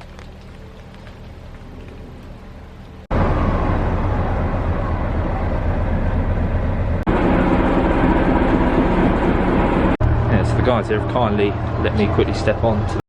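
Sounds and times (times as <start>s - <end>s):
diesel locomotive engine drone: 0.2s - 13.0s.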